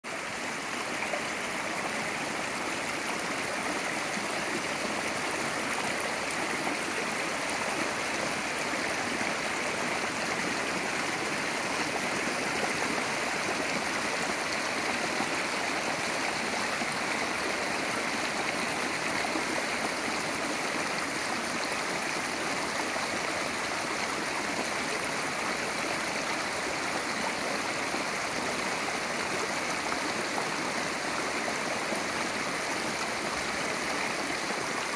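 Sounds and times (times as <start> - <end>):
creek water rushing over rocks: 0.0 - 34.9.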